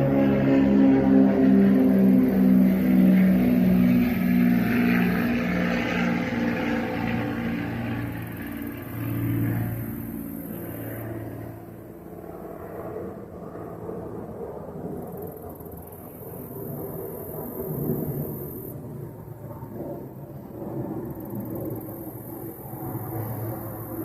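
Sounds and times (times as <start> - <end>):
jet engine noise: 0.0 - 24.0.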